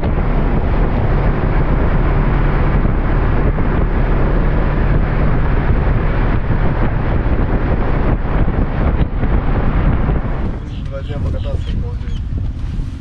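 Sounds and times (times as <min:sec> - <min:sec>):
motorcycle engine drone: 0:00.0 - 0:13.0
wind buffeting microphone: 0:00.0 - 0:13.0.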